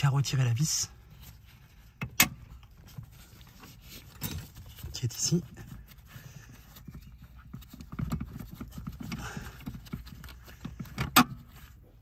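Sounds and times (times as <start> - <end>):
soft low knocks and handling: 1.0 - 12.0.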